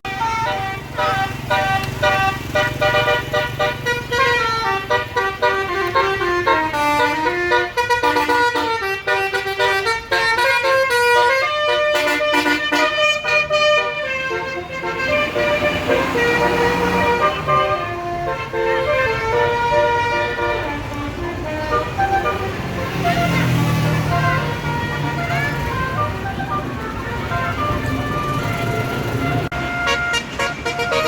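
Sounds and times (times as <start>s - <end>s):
multi-tone air horn melody: 0.1s - 31.0s.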